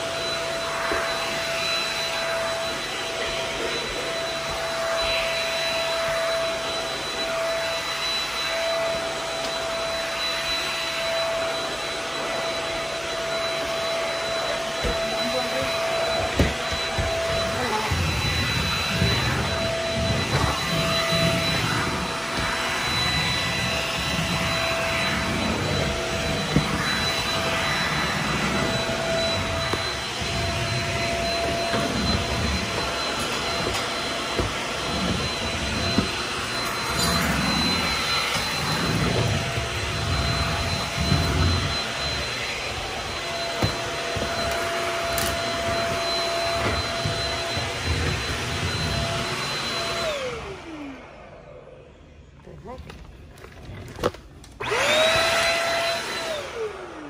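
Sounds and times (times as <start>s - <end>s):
stick vacuum motor whining: 0.0s - 57.0s.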